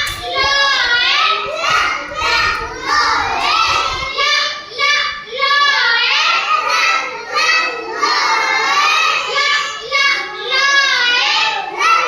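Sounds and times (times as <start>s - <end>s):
child chanting in sing-song voice: 0.0s - 12.0s.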